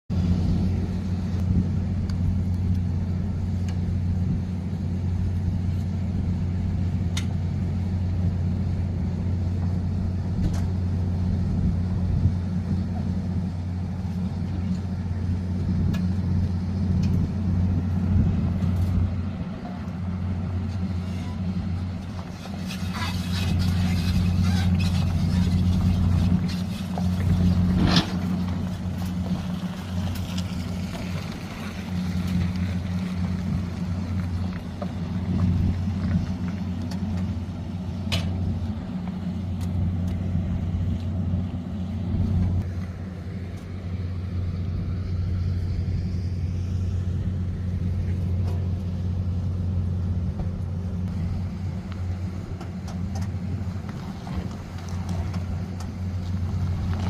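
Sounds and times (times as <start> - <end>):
machine engine humming: 0.0 - 57.0.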